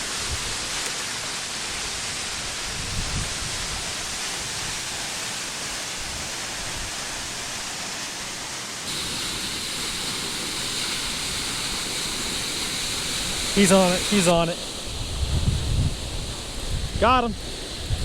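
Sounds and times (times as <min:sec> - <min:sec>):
waterfall roaring: 0:00.0 - 0:15.2.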